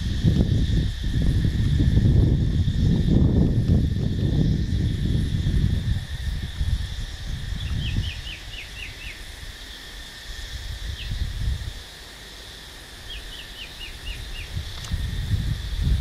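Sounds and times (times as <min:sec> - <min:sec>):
low rumble gusts: 0:00.0 - 0:12.1, 0:12.8 - 0:16.0
high insect drone: 0:00.0 - 0:16.0.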